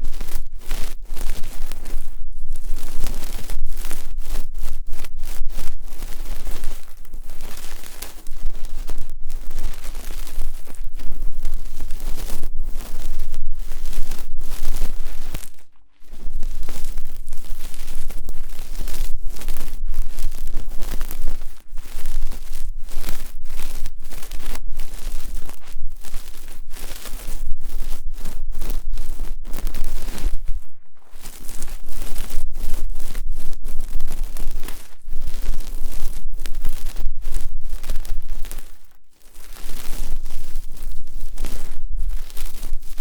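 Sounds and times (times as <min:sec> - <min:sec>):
ear-cleaning tool scratching microphone: 0:00.0 - 0:43.0.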